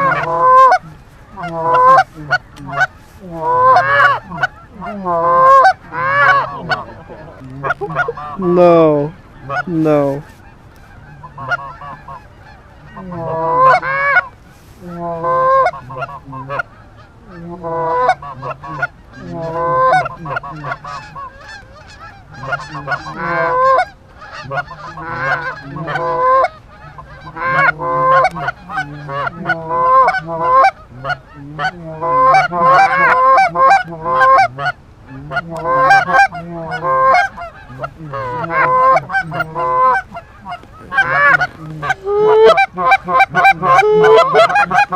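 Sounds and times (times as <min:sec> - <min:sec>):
goose honking: 0:00.0 - 0:44.9.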